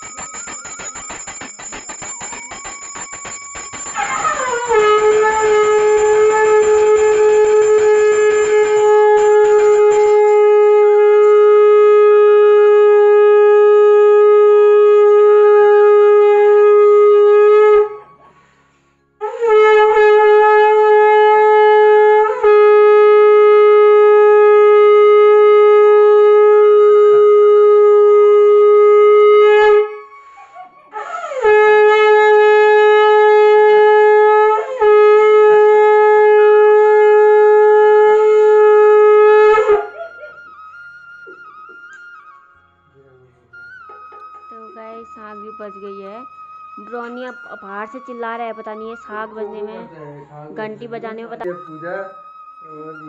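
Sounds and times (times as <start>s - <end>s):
conch shell blown: 0.0s - 53.0s.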